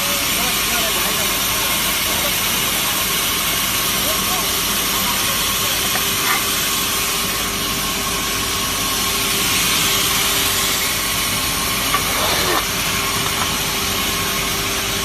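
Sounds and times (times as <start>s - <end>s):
faint motor hum: 0.0s - 15.0s
sawmill machine hiss: 0.0s - 15.0s.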